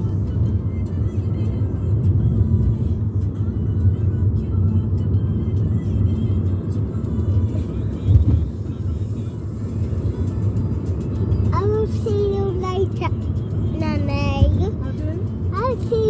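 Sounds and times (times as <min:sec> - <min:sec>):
car driving rumble: 0:00.0 - 0:16.0
music playing: 0:00.0 - 0:16.0.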